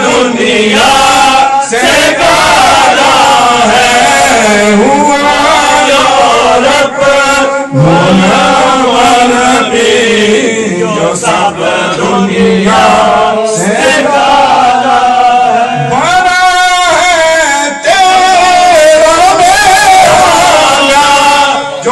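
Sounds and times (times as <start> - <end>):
men chanting devotional song: 0.0 - 21.9.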